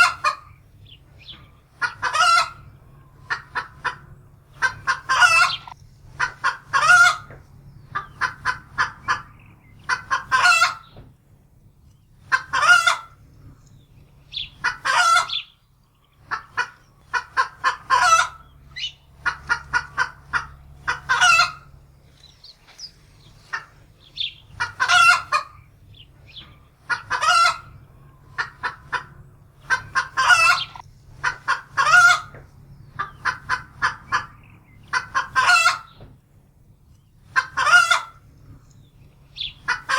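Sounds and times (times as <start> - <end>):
hen alarm cackling: 0.0 - 11.0, 12.1 - 36.0, 37.2 - 39.9.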